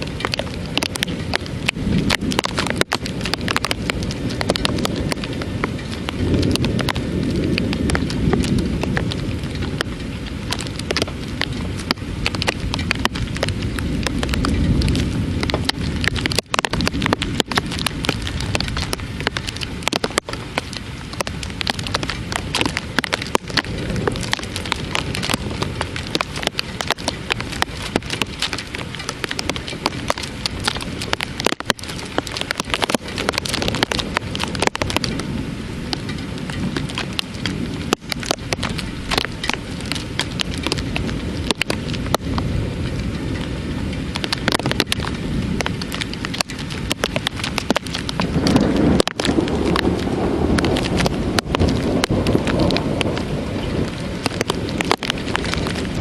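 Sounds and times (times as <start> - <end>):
heavy rain falling: 0.0 - 56.0
low rumble of thunder: 0.0 - 56.0.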